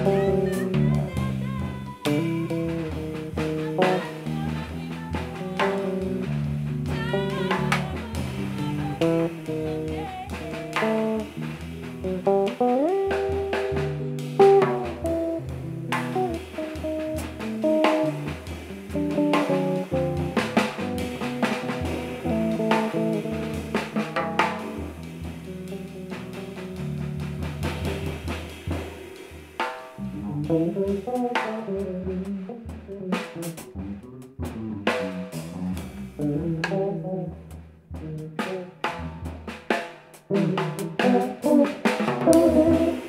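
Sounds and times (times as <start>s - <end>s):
electric bass plucked notes: 0.0s - 28.4s, 30.0s - 39.6s, 42.3s - 43.0s
drum kit: 0.0s - 43.0s.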